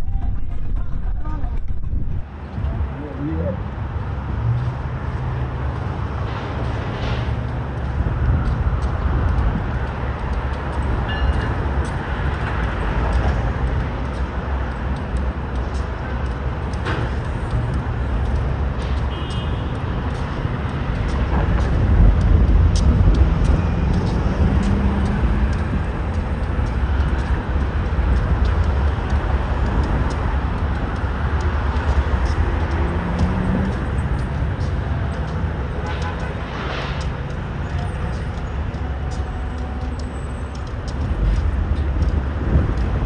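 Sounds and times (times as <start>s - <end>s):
heavy vehicle engine rumbling: 0.0s - 43.0s.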